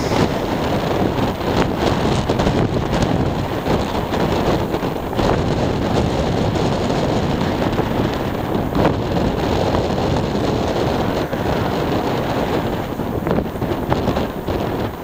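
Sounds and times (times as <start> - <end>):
distant turboprop rumble: 0.0 - 15.0
wind buffeting microphone: 0.0 - 15.0.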